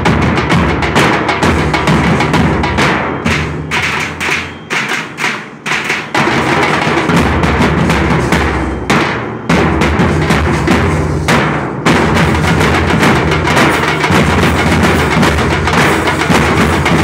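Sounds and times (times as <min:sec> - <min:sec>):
band of barrel drums beating: 0:00.0 - 0:17.0.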